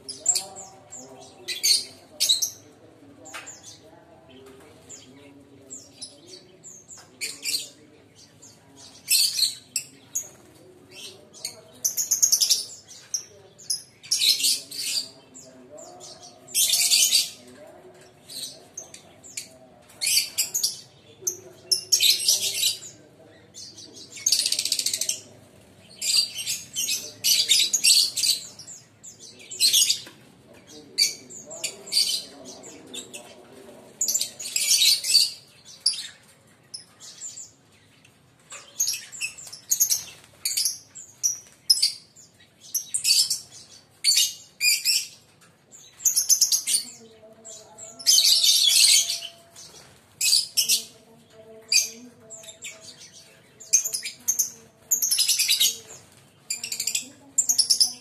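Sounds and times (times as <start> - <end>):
lovebirds chirping and screeching: 0.0 - 58.0.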